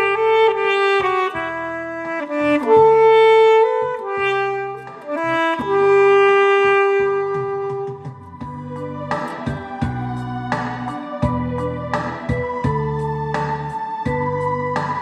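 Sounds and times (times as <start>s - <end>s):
alto saxophone melody: 0.0s - 15.0s
backing track with bass: 0.0s - 15.0s.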